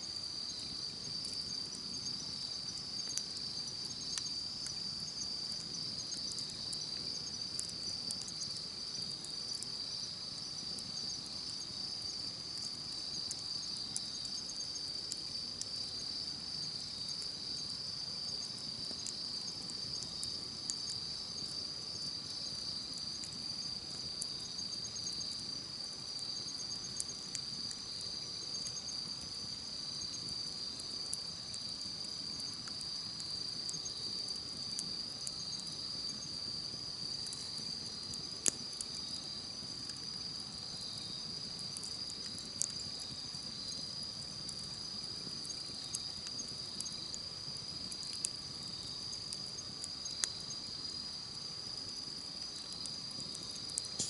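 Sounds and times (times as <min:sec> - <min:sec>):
insects chirping: 0:00.0 - 0:54.0
wood fire crackling and popping: 0:00.0 - 0:54.0.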